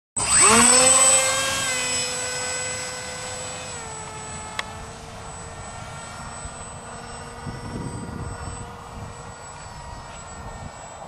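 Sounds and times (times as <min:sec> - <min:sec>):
model plane motor whining: 0:00.2 - 0:11.0.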